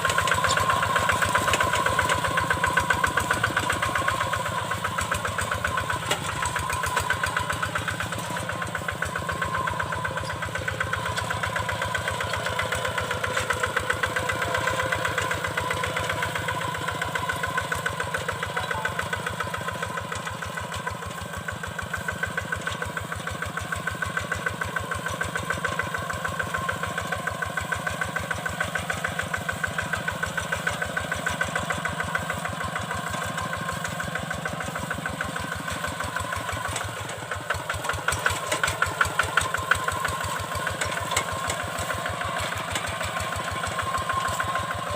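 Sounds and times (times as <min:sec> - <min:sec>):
diesel engine chugging: 0:00.0 - 0:44.9.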